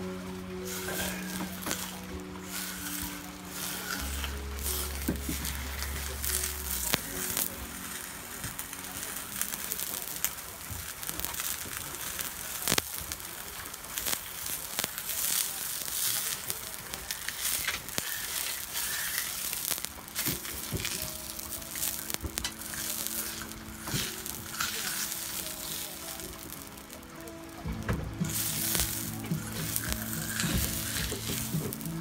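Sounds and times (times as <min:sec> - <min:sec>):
fat popping and crackling: 0:00.0 - 0:32.0
pork fat sizzling on griddle: 0:00.0 - 0:32.0.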